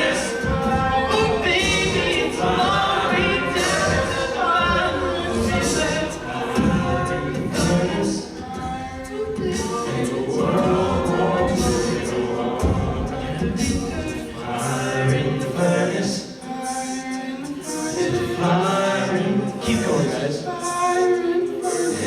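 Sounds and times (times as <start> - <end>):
men singing a cappella harmony: 0.0 - 22.0.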